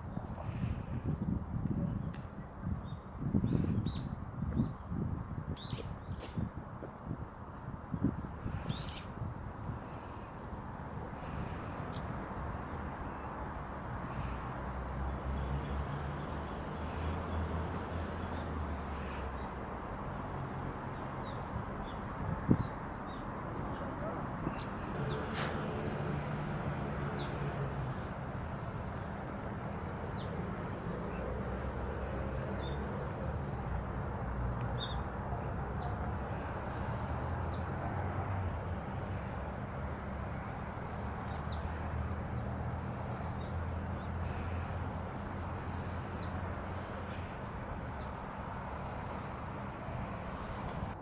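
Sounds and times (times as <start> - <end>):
small birds chirping: 7.5 - 20.2, 20.8 - 25.6, 26.7 - 37.8, 38.5 - 51.0.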